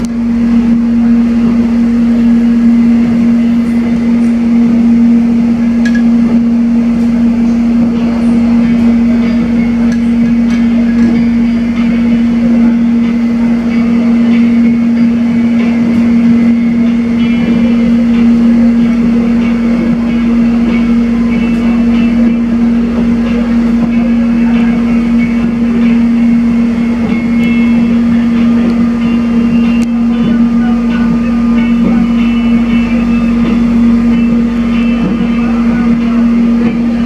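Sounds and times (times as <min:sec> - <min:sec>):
loud steady hum: 0:00.0 - 0:37.0
train running on track: 0:00.0 - 0:37.0.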